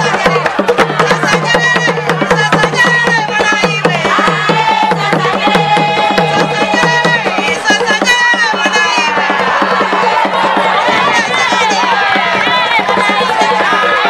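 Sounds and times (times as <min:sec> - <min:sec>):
high voices singing: 0:00.0 - 0:14.0
low tuned drums beating fast: 0:00.0 - 0:14.0.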